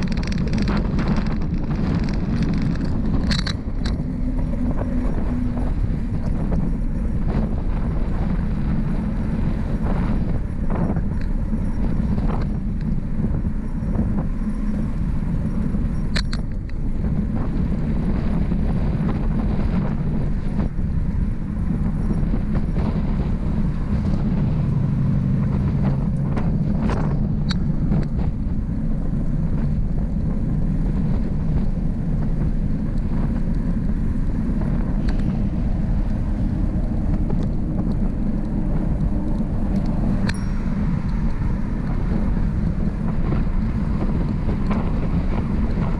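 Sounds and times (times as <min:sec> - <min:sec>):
bicycle clicks and rattles: 0:00.0 - 0:45.9
bicycle tyre rumble on road: 0:00.0 - 0:45.9
wind on microphone: 0:00.0 - 0:45.9.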